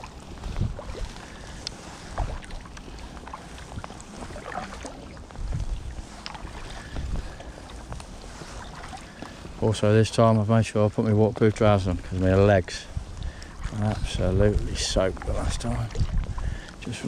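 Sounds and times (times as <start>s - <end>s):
paddle dipping into water: 0.0s - 9.6s, 11.2s - 16.8s
water drips and splashes: 0.0s - 17.0s.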